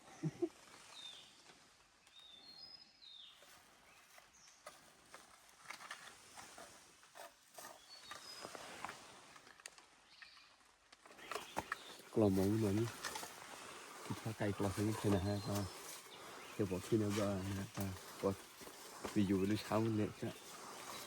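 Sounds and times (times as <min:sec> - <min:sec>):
soft crackles: 0:03.3 - 0:21.0.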